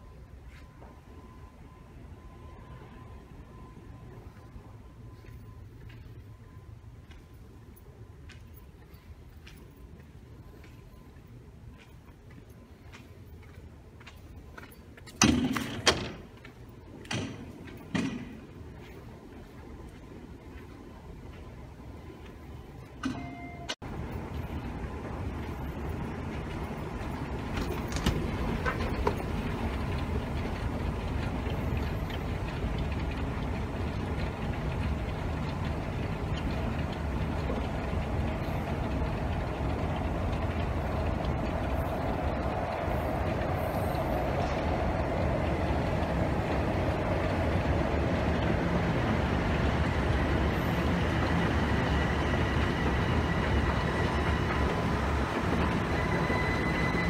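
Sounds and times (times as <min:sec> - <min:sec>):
faint high whine: 0:00.0 - 0:32.9, 0:35.0 - 0:57.0
escalator rumble and hum: 0:00.0 - 0:57.0.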